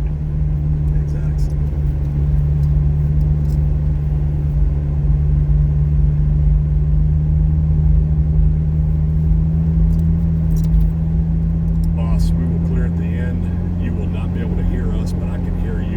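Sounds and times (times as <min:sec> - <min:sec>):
car engine drone from cabin: 0:00.0 - 0:15.9
road rumble: 0:00.0 - 0:15.9.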